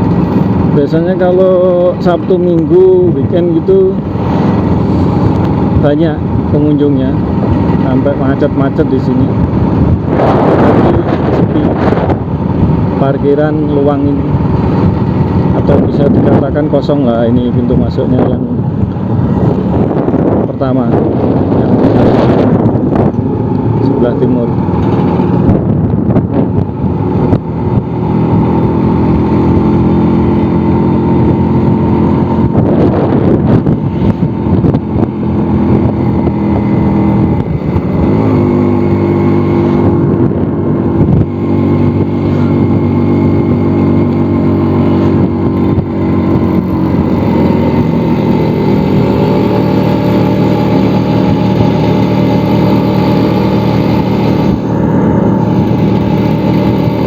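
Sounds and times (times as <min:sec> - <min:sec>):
scooter engine running: 0:00.0 - 0:16.2, 0:18.5 - 0:57.0.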